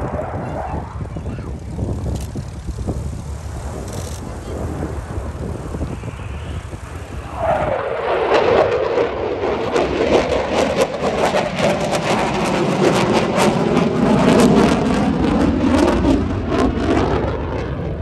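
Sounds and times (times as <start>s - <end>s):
jet flyby crackling roar: 0.0s - 18.0s.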